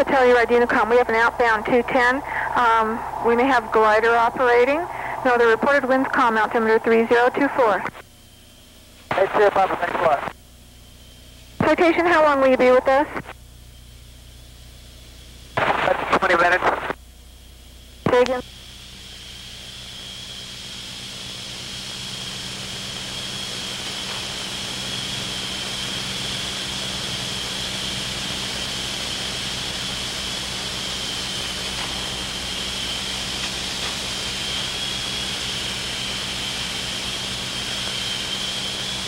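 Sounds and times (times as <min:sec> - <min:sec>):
propeller plane engine running: 0:00.0 - 0:39.0.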